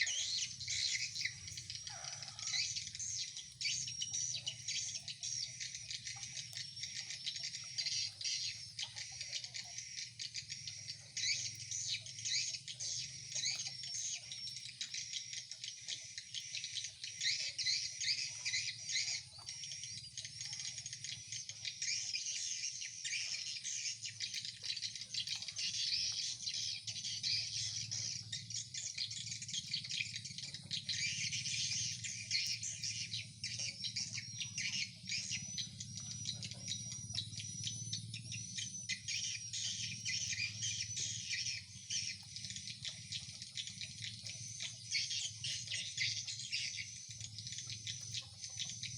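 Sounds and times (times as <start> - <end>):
high twittering bird calls: 0.0 - 48.9.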